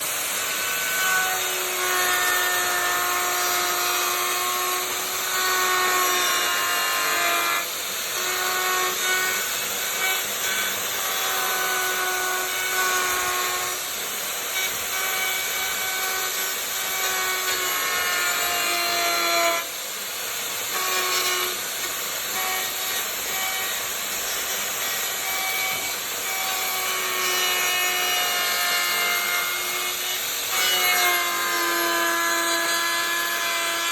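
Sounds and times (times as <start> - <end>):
wood router cutting wood: 0.0 - 33.9.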